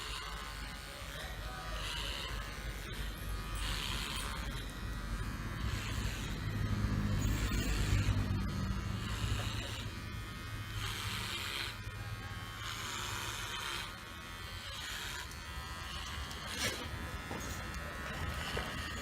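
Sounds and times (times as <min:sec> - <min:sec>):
dog clipper buzzing through fur: 0:00.0 - 0:19.0.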